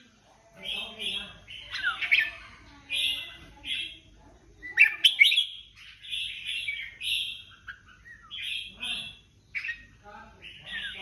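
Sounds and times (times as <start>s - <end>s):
birds singing in chorus: 0.6s - 11.0s.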